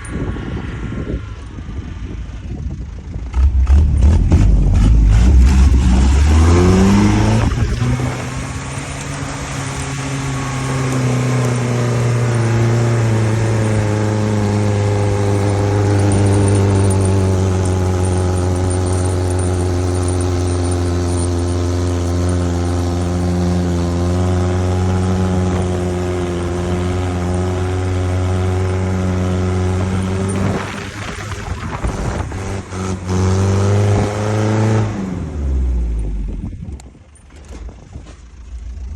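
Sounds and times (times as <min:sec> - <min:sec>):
engine revving and droning: 0:00.0 - 0:36.6.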